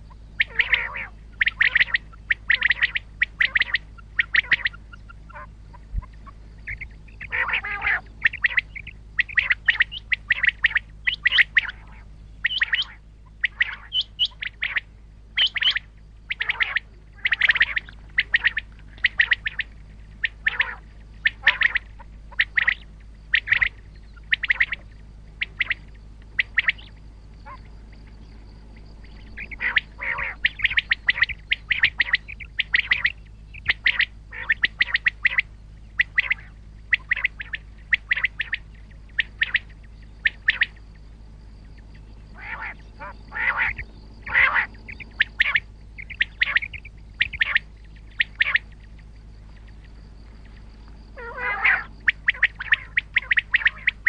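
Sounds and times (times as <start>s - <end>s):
quail calling: 0.0s - 54.0s
steady low hum: 0.0s - 54.0s.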